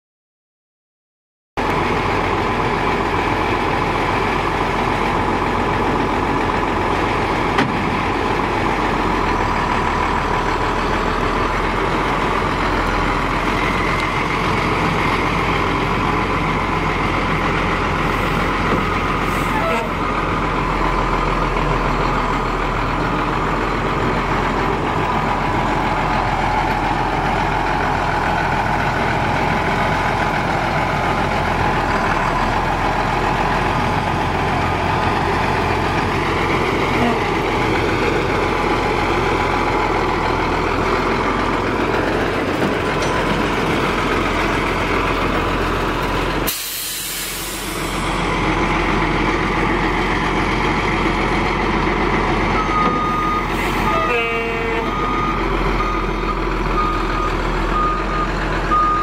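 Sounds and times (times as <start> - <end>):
truck engine idling: 1.6 - 59.0.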